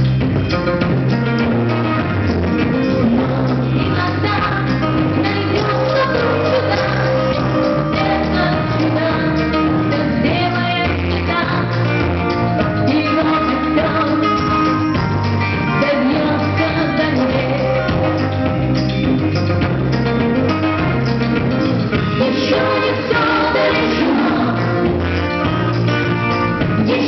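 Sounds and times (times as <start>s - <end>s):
rock song with vocals: 0.0s - 27.0s.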